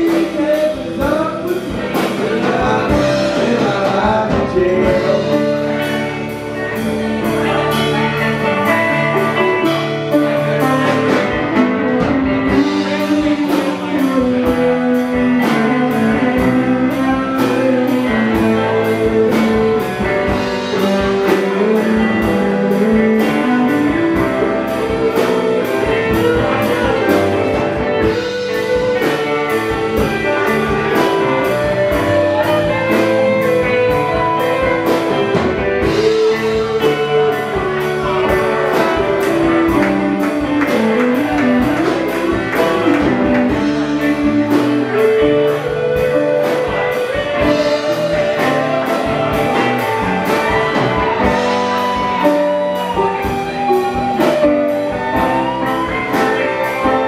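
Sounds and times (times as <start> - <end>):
electric guitar: 0.0 - 57.0
steady drum beat: 0.0 - 57.0.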